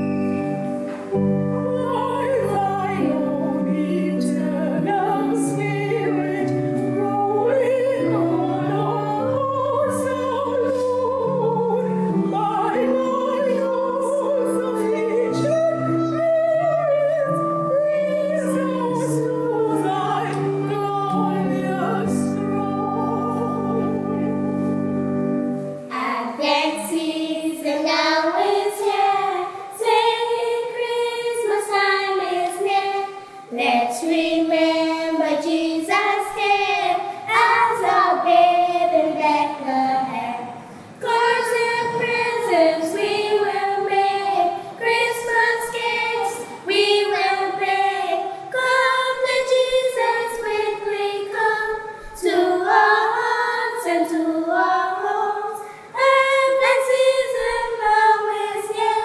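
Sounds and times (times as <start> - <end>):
choir singing unaccompanied: 0.0 - 25.3, 25.9 - 59.0.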